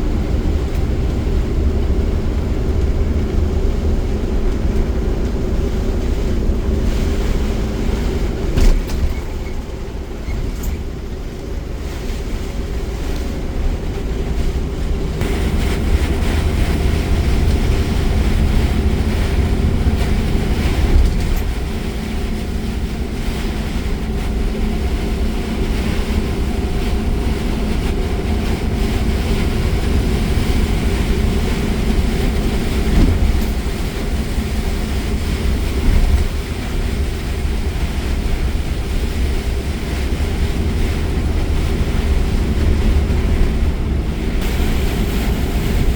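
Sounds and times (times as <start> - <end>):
car cabin rumble: 0.0 - 45.9
tyres on wet road: 0.0 - 45.9.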